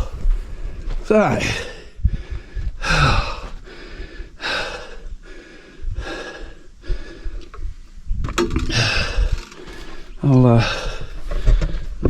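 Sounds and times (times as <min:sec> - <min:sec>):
man breathing heavily: 0:00.0 - 0:12.0.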